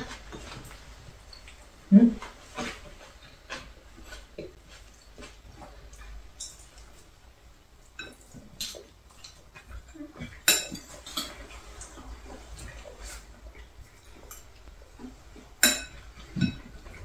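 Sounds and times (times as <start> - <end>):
utensils tapping and scraping bowls: 0.0 - 7.2, 7.8 - 17.0.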